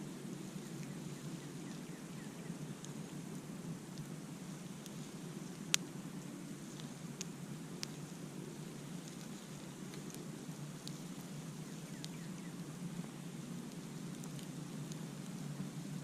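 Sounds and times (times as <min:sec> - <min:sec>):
burning wood crackling and popping: 0:00.0 - 0:16.0
campfire flames rushing: 0:00.0 - 0:16.0.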